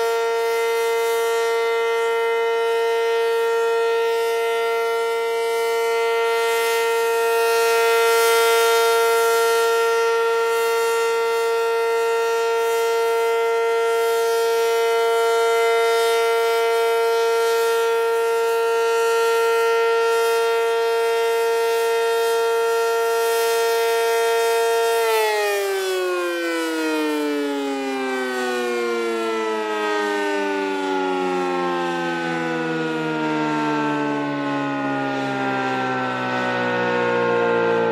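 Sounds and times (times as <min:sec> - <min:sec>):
storm warning siren steady tone: 0:00.0 - 0:37.9.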